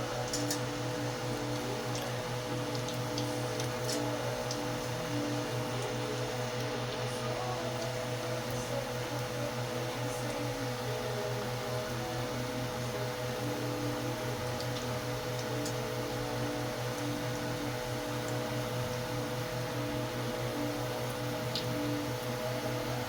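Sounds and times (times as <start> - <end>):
motor humming: 0.0 - 23.0.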